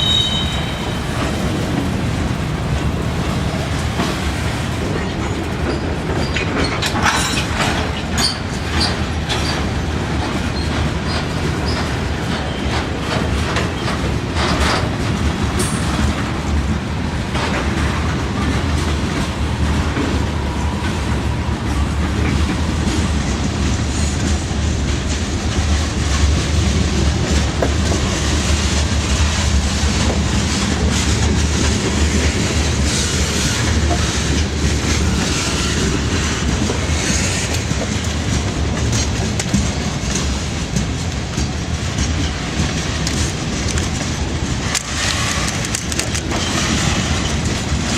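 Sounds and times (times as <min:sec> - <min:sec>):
train rumble: 0:00.0 - 0:47.9
wheels clicking over rail joints: 0:00.0 - 0:47.9.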